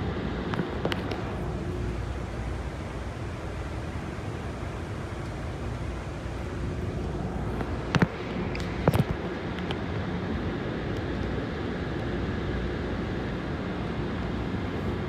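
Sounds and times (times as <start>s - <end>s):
subway car ventilation rumble: 0.0s - 15.0s.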